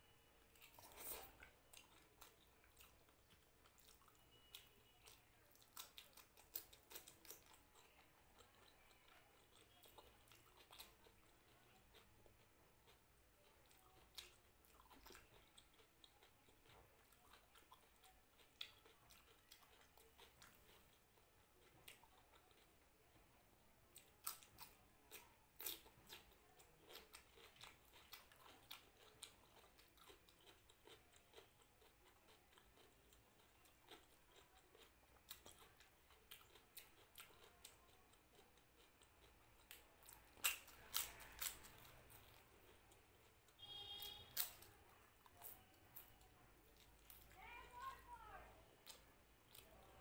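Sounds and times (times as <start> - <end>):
chewing and crunching: 0.4 - 50.0.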